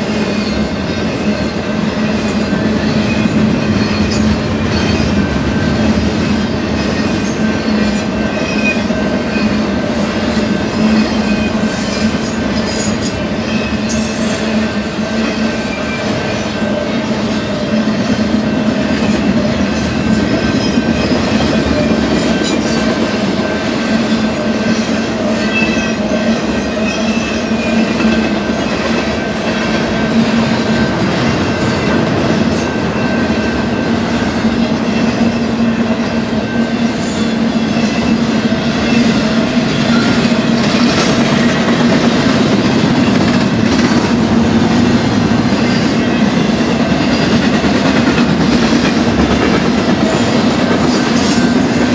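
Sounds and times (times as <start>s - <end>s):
rail clicks: 0.0s - 51.9s
train wheels rumbling on rails: 0.0s - 51.9s.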